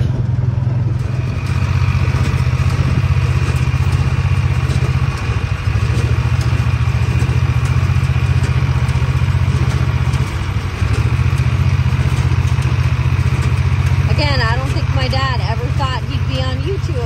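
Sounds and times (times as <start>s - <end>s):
baler clatter: 0.0s - 17.0s
tractor diesel engine running: 0.0s - 17.0s.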